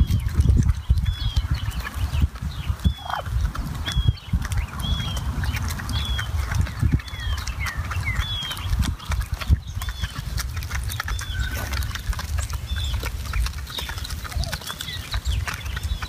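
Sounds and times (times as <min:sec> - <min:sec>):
turkeys chirping: 0:00.0 - 0:16.0.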